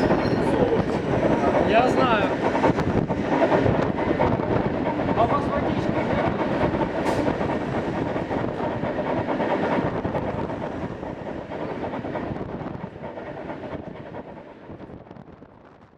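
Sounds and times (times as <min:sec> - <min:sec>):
train wheels clattering on rails: 0:00.0 - 0:14.9.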